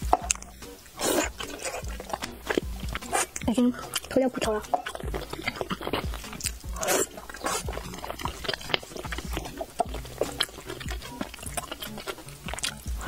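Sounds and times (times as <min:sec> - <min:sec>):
biting and chewing: 0:00.0 - 0:13.0
wet meat tearing and squelching: 0:00.0 - 0:13.0.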